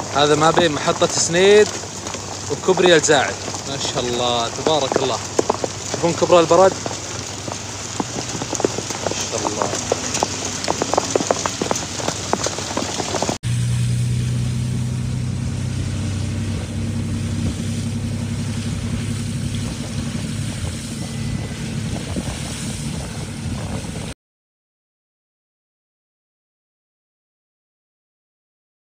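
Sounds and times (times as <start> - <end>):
hail and rain on road: 0.0 - 24.2
vehicle engine and road drone: 0.0 - 24.2.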